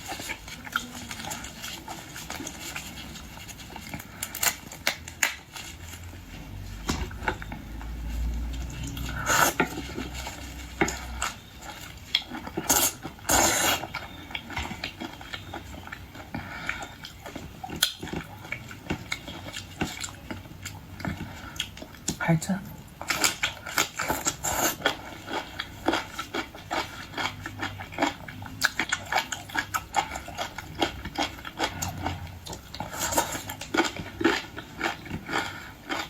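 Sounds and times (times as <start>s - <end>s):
eating sounds: 0.0s - 36.0s.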